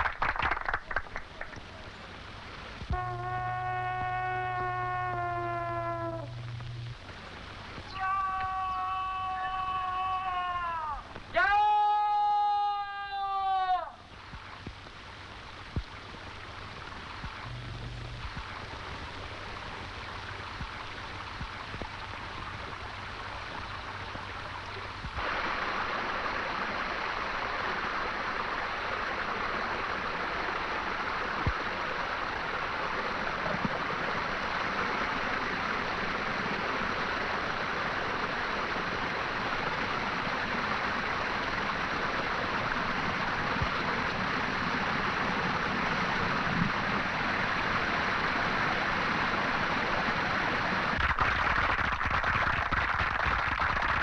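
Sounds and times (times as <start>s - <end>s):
faint hiss and low hum: 0.0s - 54.0s
water rushing through sluice gate: 0.0s - 54.0s.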